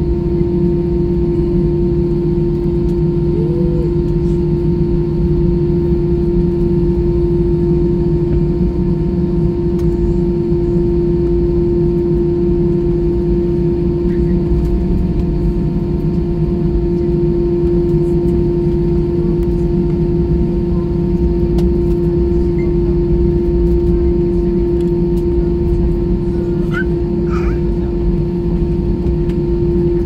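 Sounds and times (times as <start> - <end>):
airliner cabin engine hum: 0.0 - 30.0.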